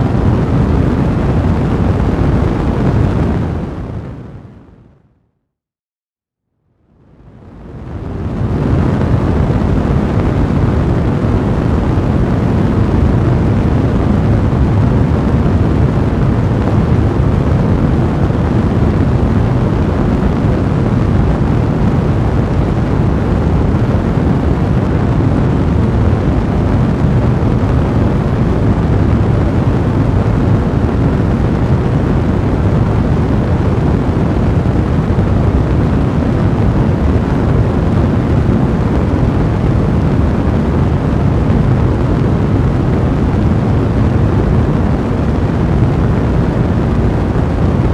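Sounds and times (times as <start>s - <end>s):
fire burning in fireplace: 7.4s - 47.9s.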